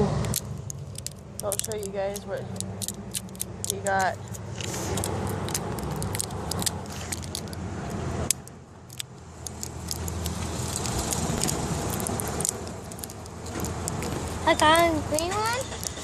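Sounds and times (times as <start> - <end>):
car engine idling: 0.0 - 16.0
plastic packaging tearing: 0.2 - 7.6, 8.9 - 14.4
plastic clicks and crinkles: 0.2 - 16.0.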